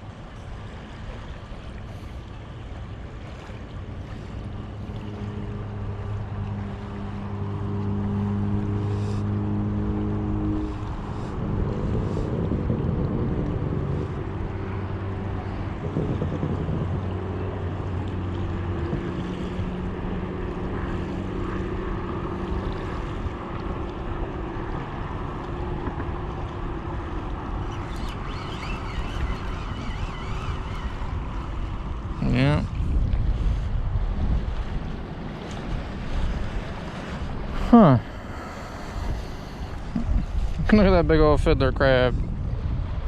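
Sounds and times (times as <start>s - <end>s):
low engine drone: 0.0s - 43.0s
wind rumbling on microphone: 0.0s - 43.0s.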